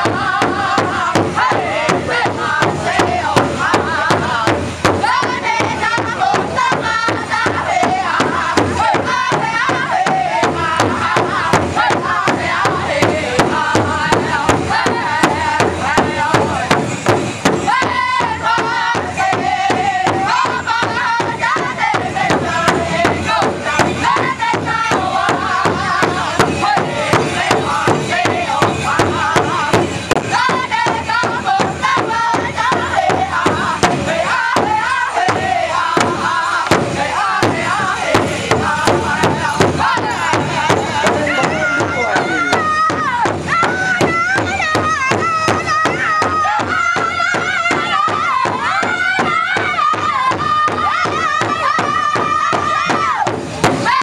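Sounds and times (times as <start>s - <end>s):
large drum steady beat: 0.0s - 54.0s
young voices singing in unison: 0.0s - 54.0s.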